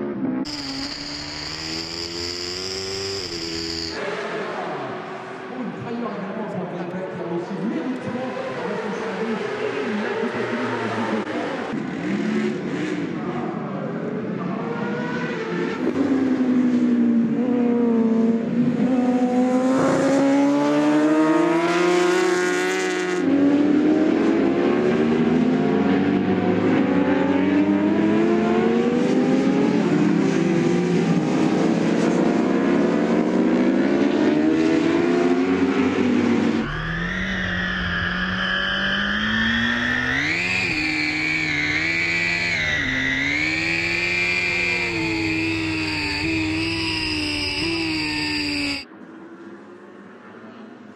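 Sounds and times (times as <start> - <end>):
superbike engines at full speed: 0.0 - 4.1, 8.2 - 48.9.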